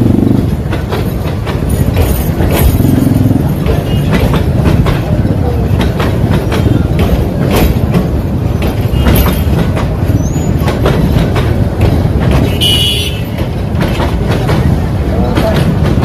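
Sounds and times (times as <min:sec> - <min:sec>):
train rolling rumble: 0:00.0 - 0:16.0
train wheels clacking over rail joints: 0:00.0 - 0:16.0.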